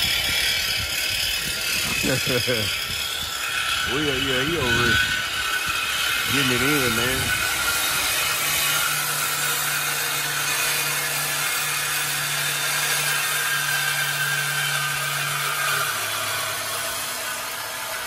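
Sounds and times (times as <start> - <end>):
power saw cutting steel pipe: 0.0 - 18.0.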